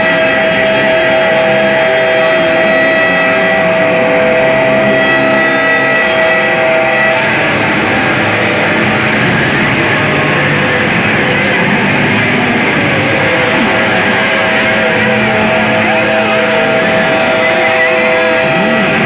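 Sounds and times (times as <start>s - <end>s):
distorted noise music: 0.0s - 19.0s.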